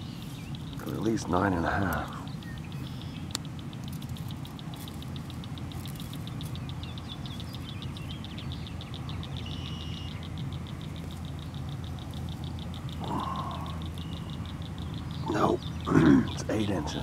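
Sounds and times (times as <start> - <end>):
animal ticking trill: 0.0 - 17.0
steady low rumble: 0.0 - 17.0.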